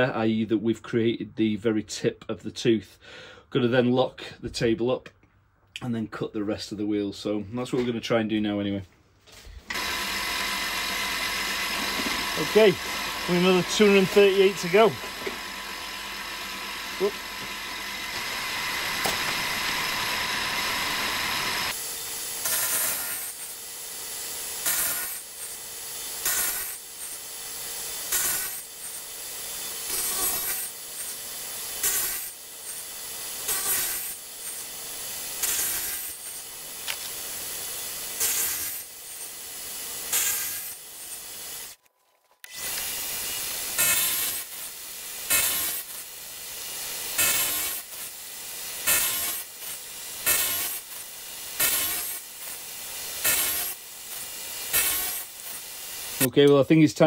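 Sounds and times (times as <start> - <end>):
milling cutter grinding metal: 9.6 - 41.8, 42.4 - 56.6.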